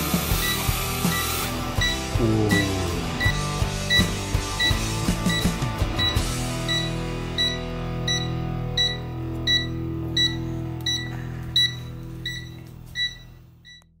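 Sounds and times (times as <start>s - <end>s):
music with held chords: 0.0s - 14.0s.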